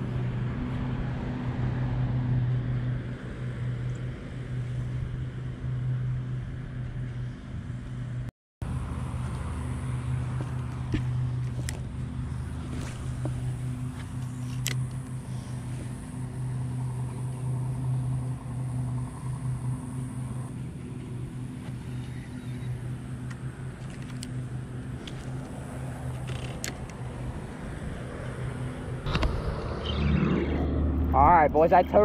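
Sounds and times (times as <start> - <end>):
motor humming: 2.7 - 31.1.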